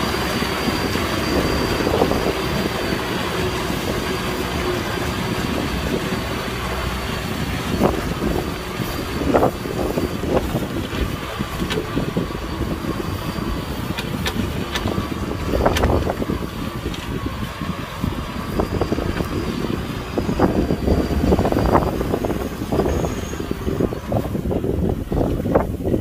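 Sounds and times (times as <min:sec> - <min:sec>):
clanks from plow and steel wheels: 0:00.0 - 0:26.0
engine whine: 0:00.0 - 0:26.0
tractor diesel engine under load: 0:00.0 - 0:26.0.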